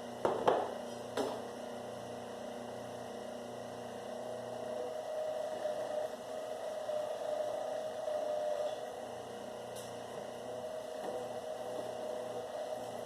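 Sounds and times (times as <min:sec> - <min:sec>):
wire stripping machine humming: 0:00.0 - 0:13.0.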